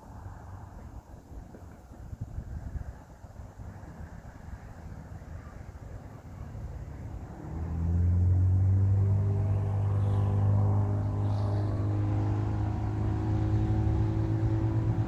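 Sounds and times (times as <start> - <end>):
engine low-pitched hum: 0.0 - 15.0
faint low rumble: 0.1 - 15.0.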